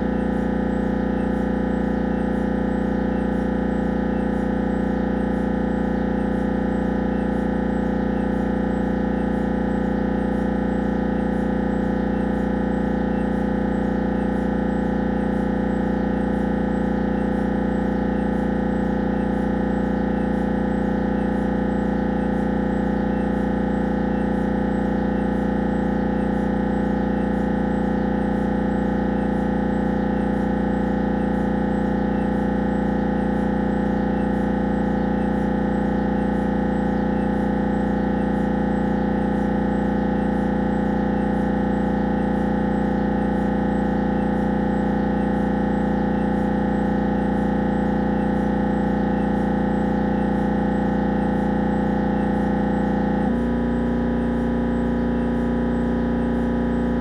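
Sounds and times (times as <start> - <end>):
mri scanner buzzing drone: 0.0 - 57.0.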